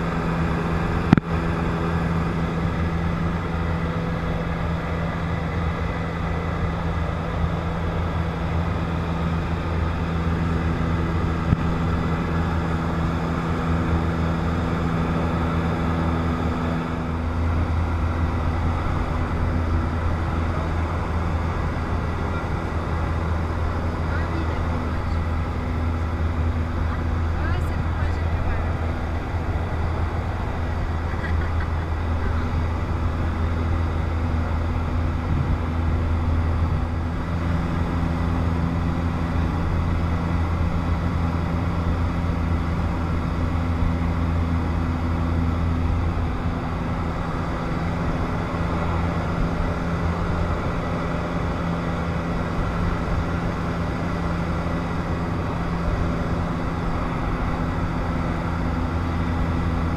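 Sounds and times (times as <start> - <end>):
aircraft engine droning: 0.0 - 59.9.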